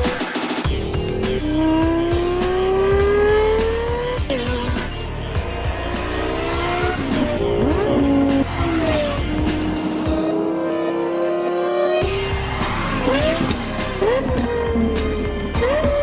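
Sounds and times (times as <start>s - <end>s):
music: 0.0s - 16.0s
car engine accelerating: 0.7s - 16.0s.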